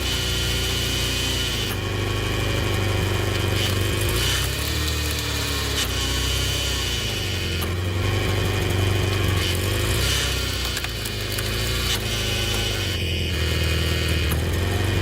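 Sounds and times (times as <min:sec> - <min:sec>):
hydraulic pump humming: 0:00.0 - 0:15.0.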